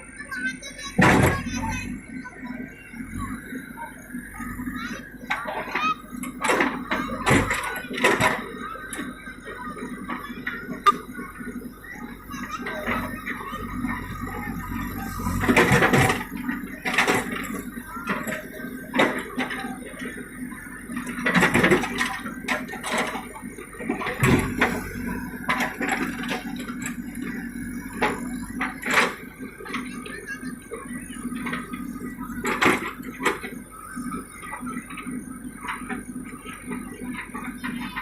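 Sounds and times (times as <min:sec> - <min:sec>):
backhoe engine humming: 0:00.0 - 0:38.0.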